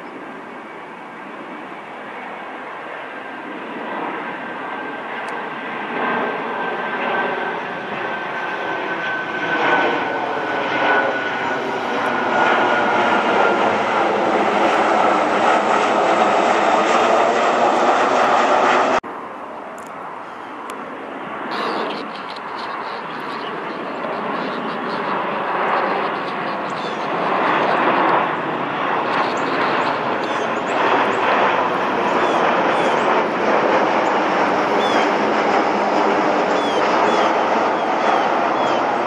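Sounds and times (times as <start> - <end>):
jet plane passing low overhead: 0.0 - 39.0.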